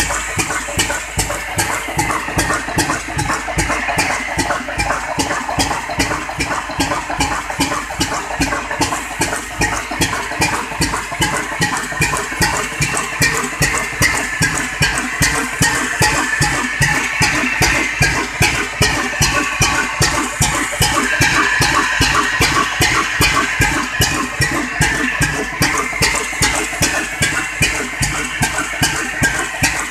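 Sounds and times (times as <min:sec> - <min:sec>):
diesel engine knocking steadily: 0:00.0 - 0:29.9.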